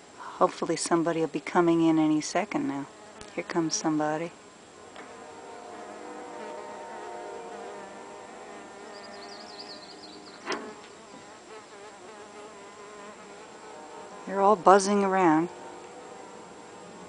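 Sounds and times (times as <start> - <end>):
bees buzzing: 1.0 - 17.0.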